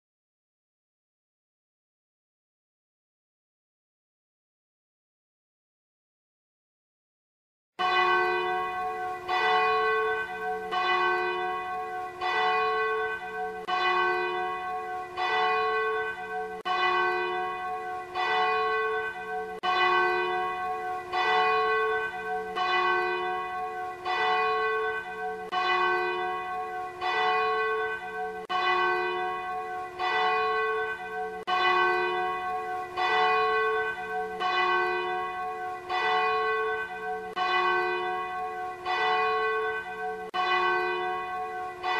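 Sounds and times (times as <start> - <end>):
church bells ringing: 7.8 - 41.9.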